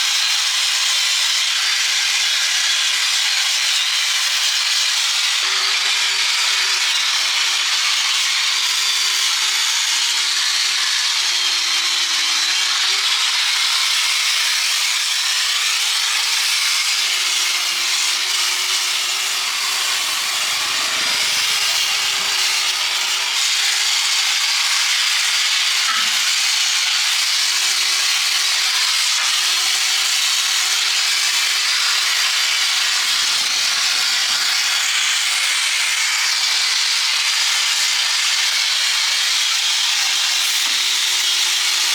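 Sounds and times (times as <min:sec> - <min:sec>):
power tool grinding steel: 0:00.0 - 0:41.9.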